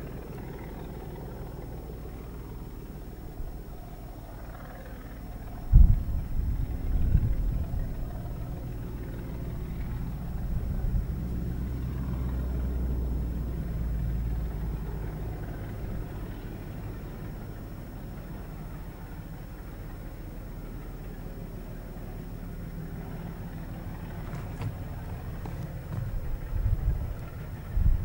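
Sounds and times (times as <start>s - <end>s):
distant diesel locomotive rumble: 0.0s - 28.0s.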